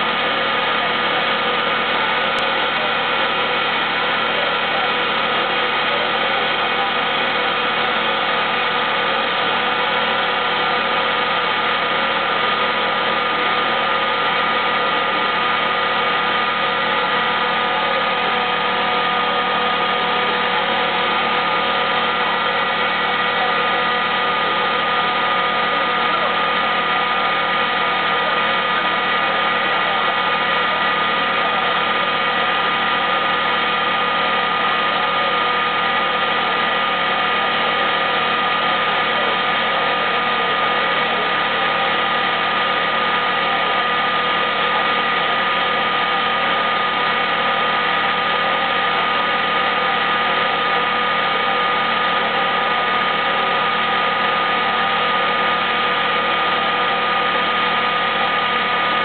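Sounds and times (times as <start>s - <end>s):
machinery humming: 0.0s - 59.0s.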